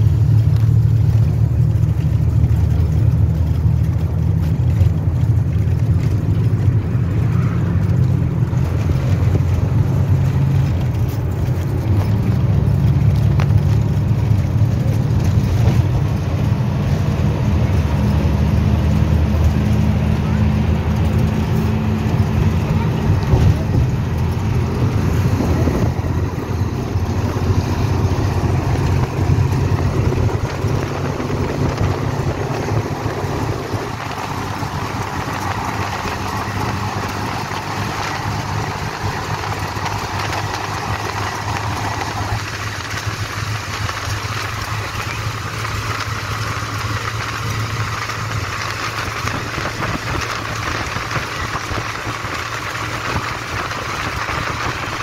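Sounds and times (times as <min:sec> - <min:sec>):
bus engine drone: 0:00.0 - 0:55.0
road noise: 0:00.0 - 0:55.0
wind through open window: 0:00.0 - 0:55.0.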